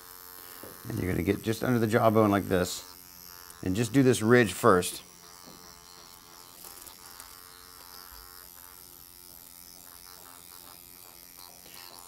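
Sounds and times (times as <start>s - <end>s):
motorized pen buzzing: 0.0s - 12.0s.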